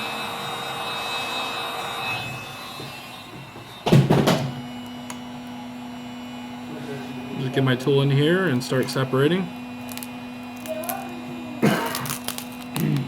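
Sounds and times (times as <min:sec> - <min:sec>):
heat gun blower whine: 0:00.0 - 0:13.0.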